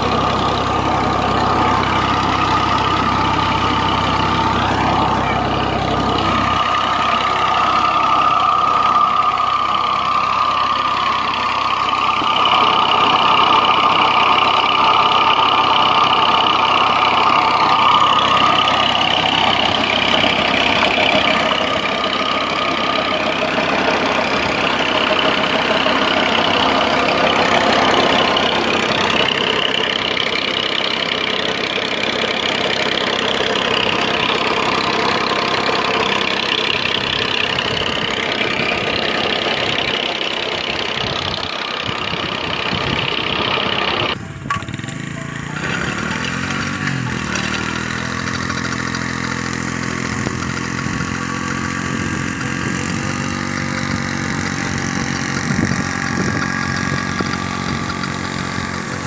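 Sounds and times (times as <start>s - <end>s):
diesel engine running steadily: 0.0s - 59.0s.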